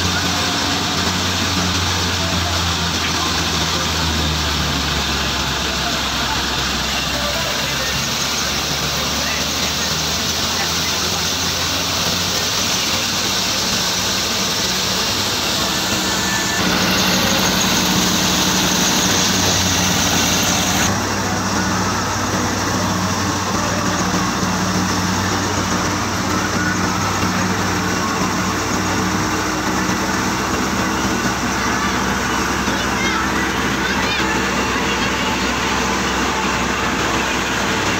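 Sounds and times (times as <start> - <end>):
low engine hum: 0.0 - 37.9
thresher rushing noise: 0.0 - 37.9.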